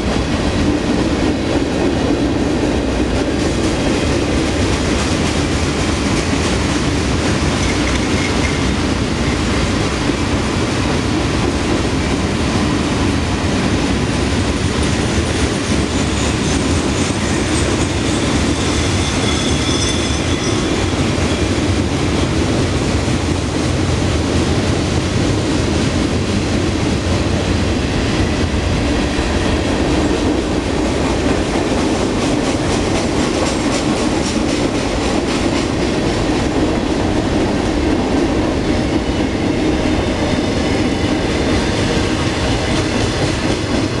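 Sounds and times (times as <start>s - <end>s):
steel wheels rolling on rails: 0.0s - 44.0s.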